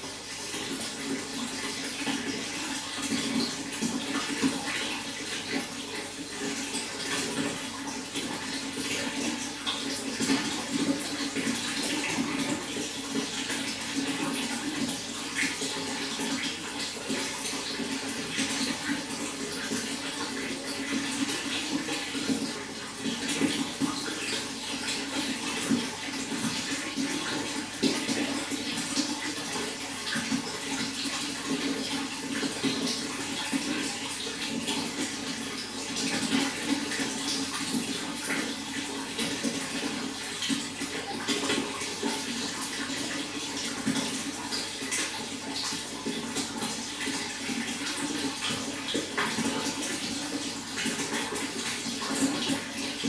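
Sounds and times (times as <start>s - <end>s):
water pouring and splashing: 0.0s - 53.0s.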